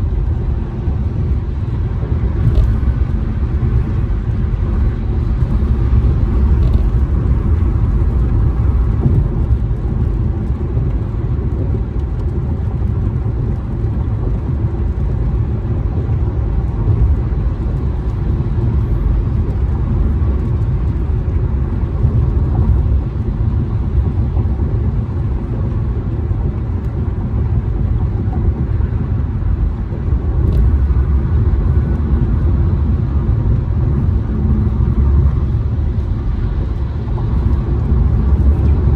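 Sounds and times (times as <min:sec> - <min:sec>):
car cabin road noise: 0:00.0 - 0:38.9.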